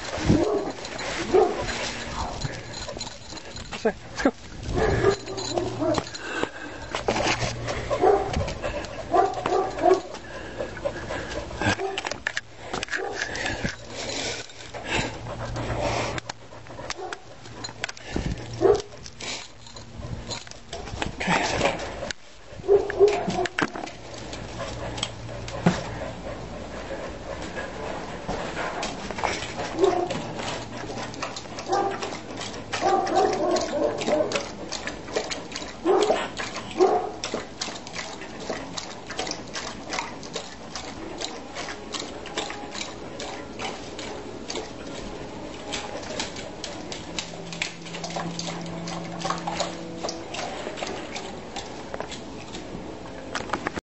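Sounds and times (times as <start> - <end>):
dog lapping water: 0.0 - 53.8.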